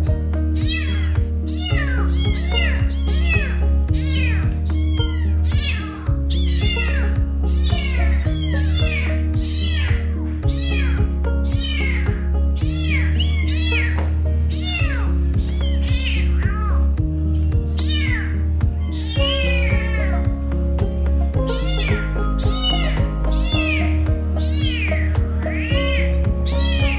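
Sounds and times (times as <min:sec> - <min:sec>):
kittens meowing: 0:00.0 - 0:17.0, 0:17.7 - 0:26.9
background music with bass line: 0:00.0 - 0:26.9.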